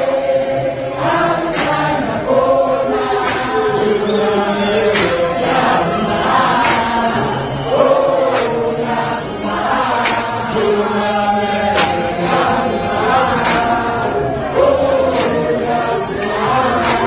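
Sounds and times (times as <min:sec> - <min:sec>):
crowd singing in chorus: 0:00.0 - 0:17.0.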